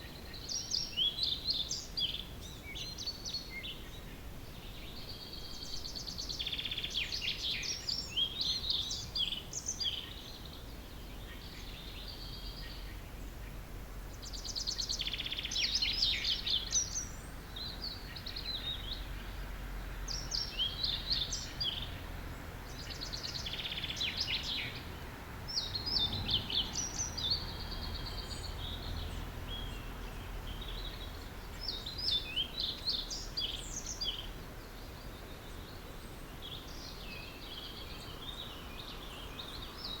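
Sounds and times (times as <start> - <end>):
songbirds singing: 0.0 - 40.0.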